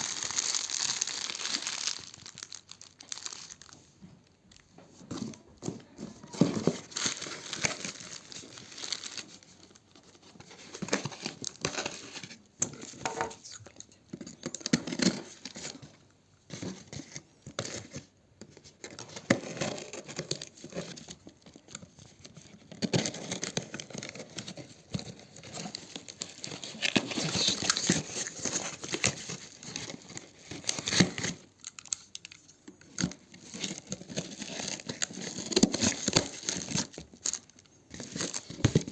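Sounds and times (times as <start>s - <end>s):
packaging crinkling and tearing: 0.0s - 38.9s.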